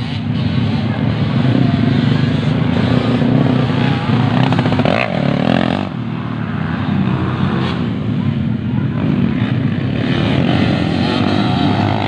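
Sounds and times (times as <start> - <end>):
dirt bike revving up: 0.0 - 8.1, 9.0 - 12.0
dirt bike engines running: 0.0 - 12.0.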